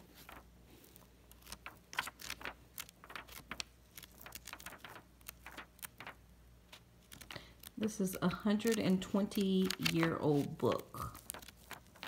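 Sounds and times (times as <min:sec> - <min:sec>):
old book pages rustling: 0:00.0 - 0:12.0.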